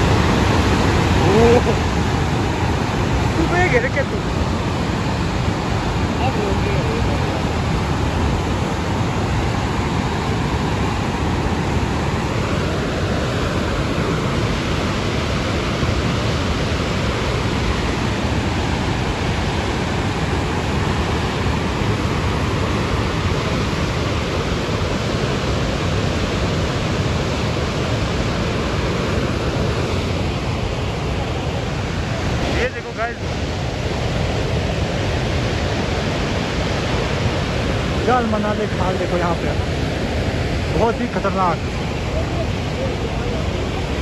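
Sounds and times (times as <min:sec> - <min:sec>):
river rushing in flood: 0:00.0 - 0:44.0.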